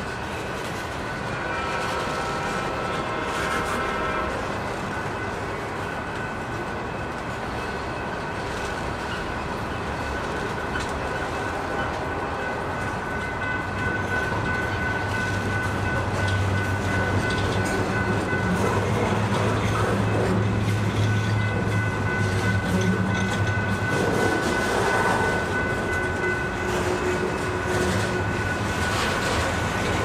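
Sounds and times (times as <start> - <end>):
steel wheels rumbling on rail: 0.0 - 30.0.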